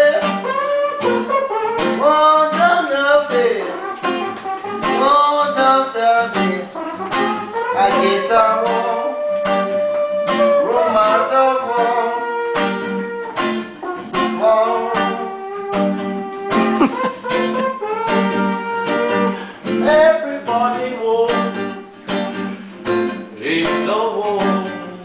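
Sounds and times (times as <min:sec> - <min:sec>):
person singing: 0:00.0 - 0:04.0, 0:04.8 - 0:13.0, 0:13.9 - 0:22.2, 0:23.2 - 0:25.0
classical guitar strumming: 0:00.0 - 0:25.0.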